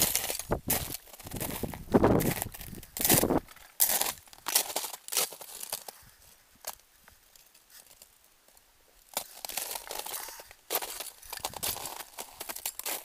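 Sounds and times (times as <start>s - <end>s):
footsteps crunching on snow: 0.0s - 6.8s, 9.1s - 13.0s.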